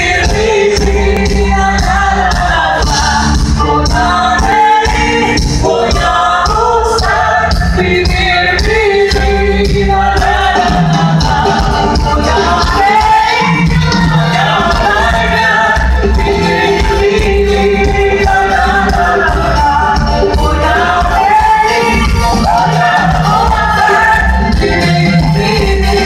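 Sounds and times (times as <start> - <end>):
live band with singers: 0.0 - 26.0.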